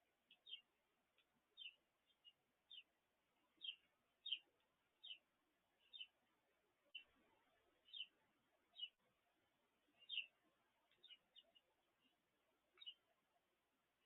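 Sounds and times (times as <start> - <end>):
small bird chirping faintly: 0.0 - 14.0.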